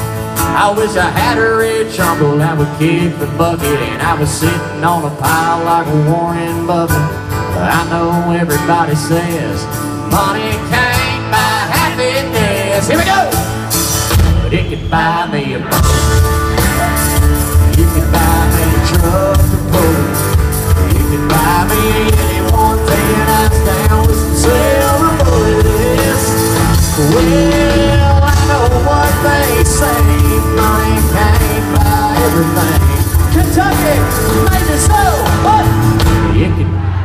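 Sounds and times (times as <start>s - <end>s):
bass: 0.0s - 37.0s
drums: 0.0s - 37.0s
electric guitars: 0.0s - 37.0s.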